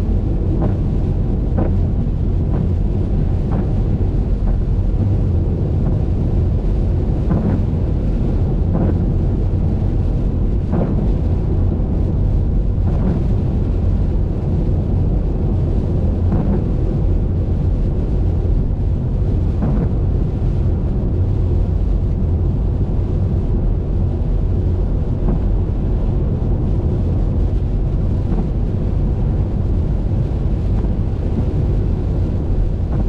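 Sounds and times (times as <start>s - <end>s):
car driving on highway: 0.0s - 33.0s
wind on microphone: 0.0s - 33.0s.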